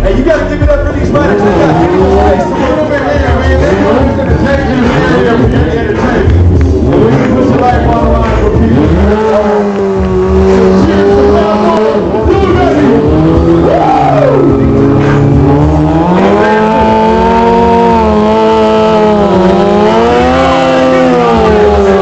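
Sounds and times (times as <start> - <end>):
motorcycle engine revving hard: 0.2 - 22.0.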